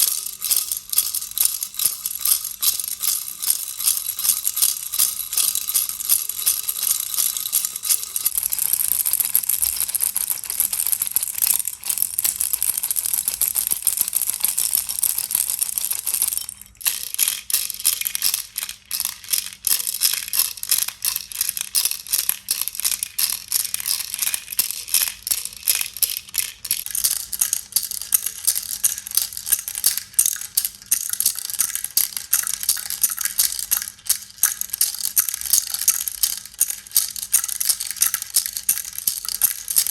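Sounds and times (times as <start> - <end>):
plastic baby rattle shaking: 0.0 - 39.9.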